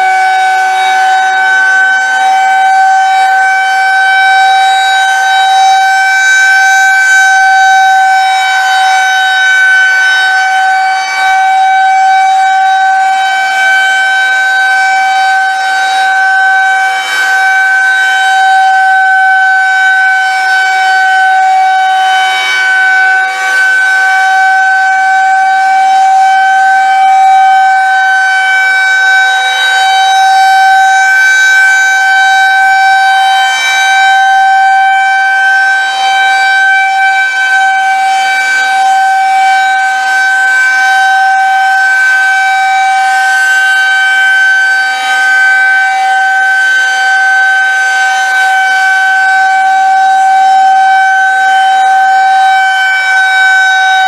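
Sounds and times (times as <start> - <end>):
siren wailing: 0.0 - 54.0.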